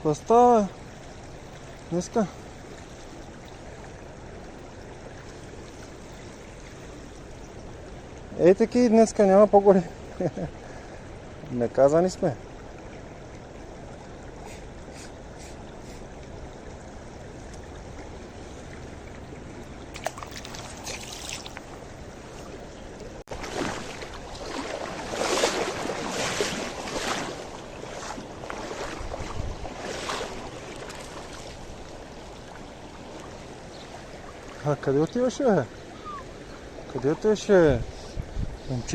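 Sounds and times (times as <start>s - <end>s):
river water rushing over stones: 0.0s - 37.6s
loud uneven water swishes: 0.0s - 38.9s.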